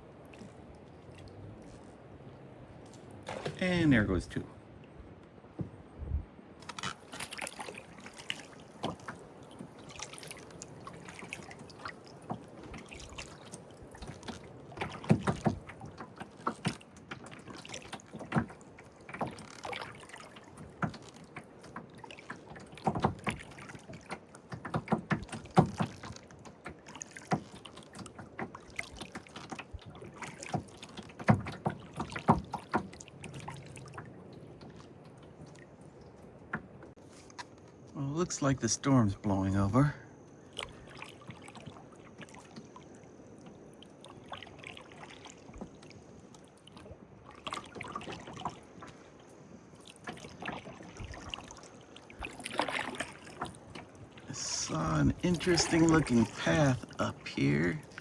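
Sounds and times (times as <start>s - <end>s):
paddle splashing in water: 0.0s - 5.9s, 6.5s - 58.0s
sharp knocks and drips: 2.8s - 3.9s, 5.5s - 5.8s, 6.6s - 37.9s, 40.5s - 49.0s, 49.8s - 58.0s.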